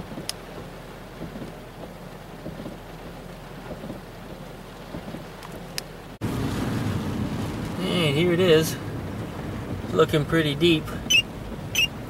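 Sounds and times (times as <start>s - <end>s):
heavy rain on a car: 0.0s - 12.0s
low steady rumble: 0.0s - 12.0s.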